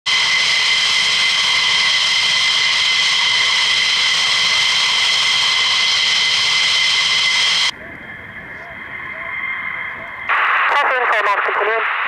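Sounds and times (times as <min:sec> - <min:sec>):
high-pitched jet engine whine: 0:00.1 - 0:12.0.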